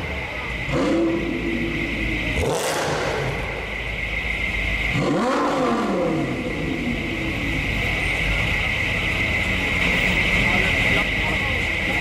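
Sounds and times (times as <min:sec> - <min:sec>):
sports car engine rumbling: 0:00.0 - 0:12.0
sports car engine revving: 0:00.1 - 0:11.2.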